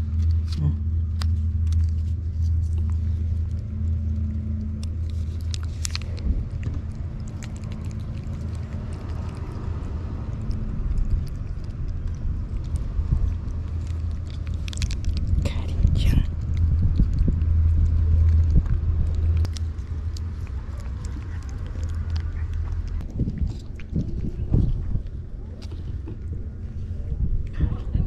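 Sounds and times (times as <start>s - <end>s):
low rumble: 0.0s - 28.0s
cat licking: 1.3s - 27.6s.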